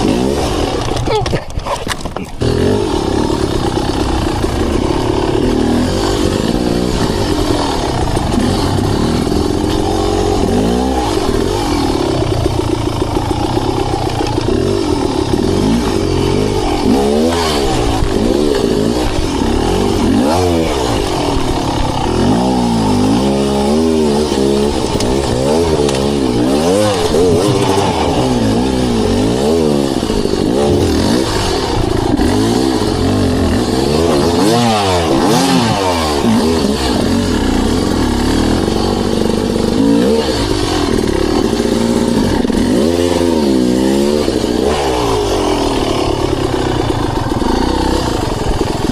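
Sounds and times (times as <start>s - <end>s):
clatter: 0.0s - 48.9s
dirt bike engine revving: 0.0s - 48.9s.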